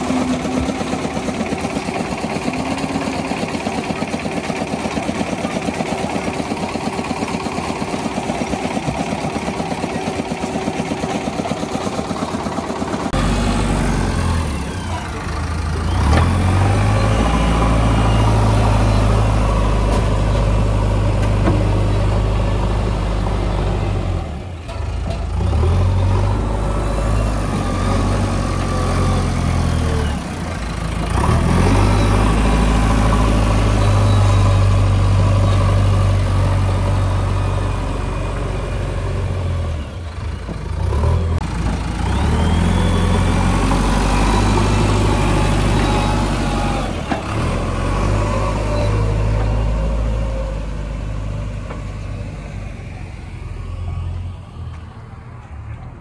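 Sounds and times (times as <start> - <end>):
diesel engine working: 0.0 - 56.0.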